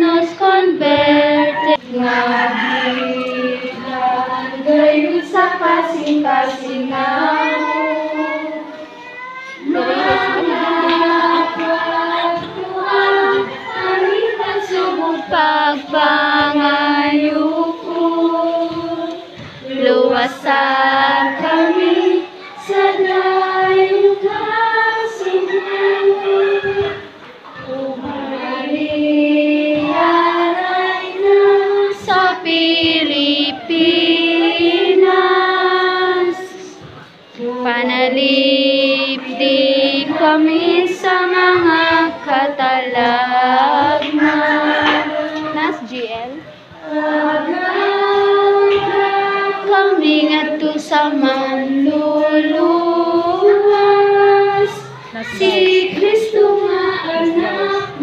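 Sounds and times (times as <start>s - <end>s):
children singing a hymn: 0.0s - 58.0s.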